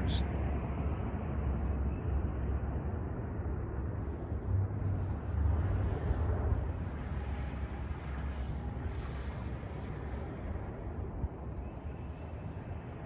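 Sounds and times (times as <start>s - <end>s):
low rough aircraft rumbling: 0.0s - 13.0s.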